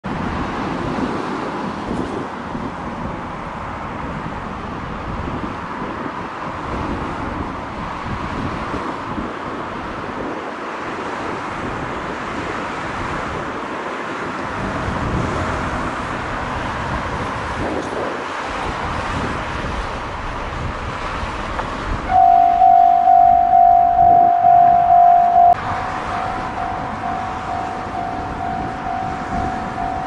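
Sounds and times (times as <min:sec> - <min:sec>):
road traffic roar: 0:00.0 - 0:30.0.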